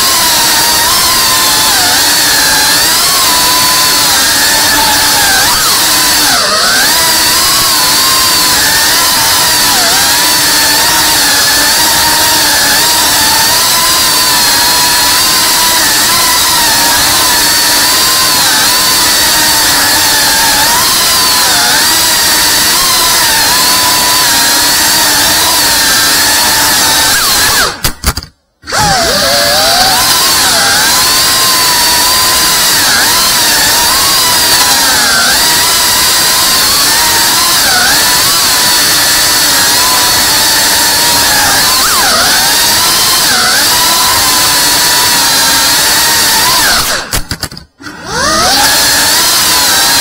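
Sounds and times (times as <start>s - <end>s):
drone motors whining: 0.0s - 50.0s.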